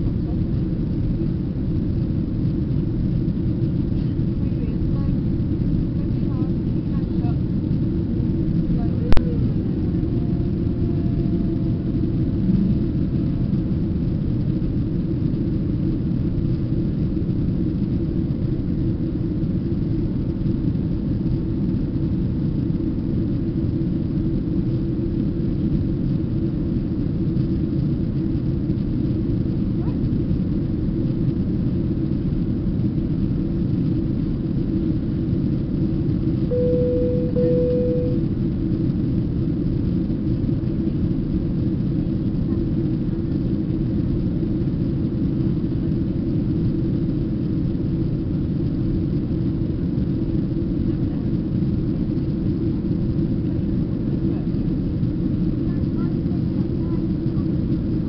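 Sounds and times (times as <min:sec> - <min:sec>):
airliner cabin jet engine drone: 0:00.0 - 0:58.0.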